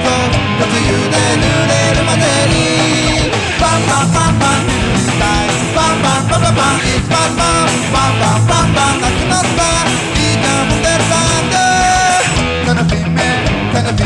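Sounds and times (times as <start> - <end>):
punk rock with guitars and drums: 0.0 - 14.0.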